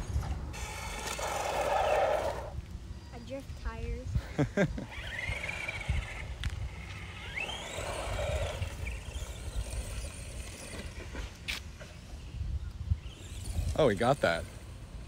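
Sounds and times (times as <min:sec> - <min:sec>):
rc truck motor whining: 0:00.0 - 0:03.8, 0:04.8 - 0:15.0.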